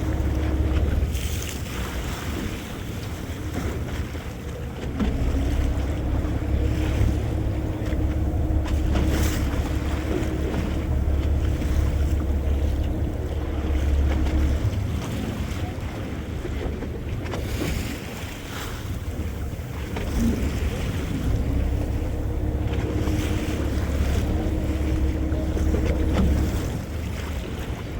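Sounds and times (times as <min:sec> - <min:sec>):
motorboat engine humming: 0:00.0 - 0:27.9
water sounds: 0:00.0 - 0:27.9.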